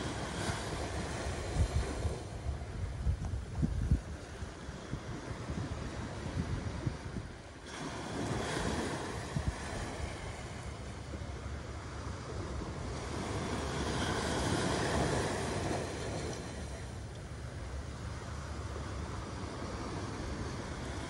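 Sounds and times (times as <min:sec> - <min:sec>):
waves washing up a beach: 0:00.0 - 0:21.0
wind rumbling on microphone: 0:00.0 - 0:21.0.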